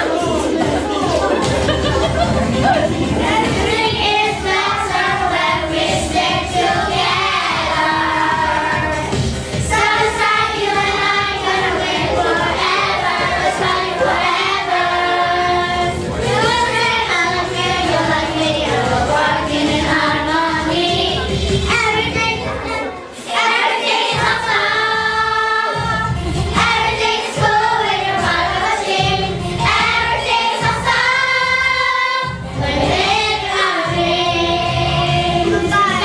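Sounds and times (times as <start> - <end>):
backing track with steady beat: 0.0 - 36.0
children singing: 0.0 - 36.0.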